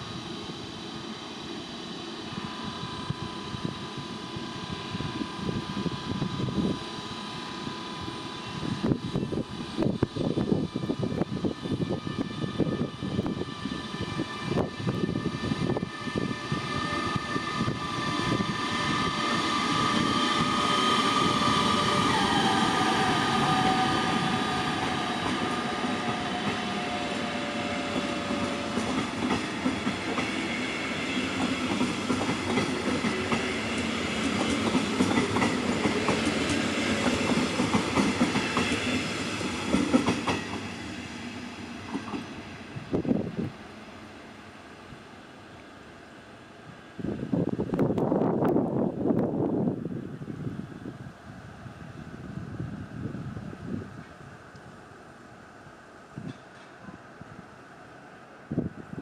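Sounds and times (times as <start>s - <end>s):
electric locomotive whine: 0.0s - 59.0s
train coaches rumbling: 0.0s - 59.0s.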